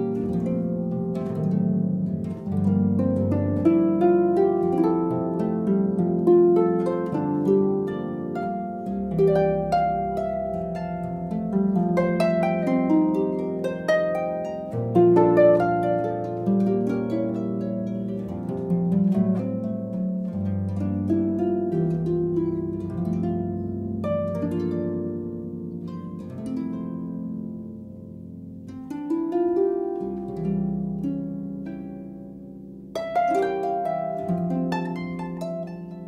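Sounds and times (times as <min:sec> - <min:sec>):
gentle harp-like melody: 0:00.0 - 0:36.0.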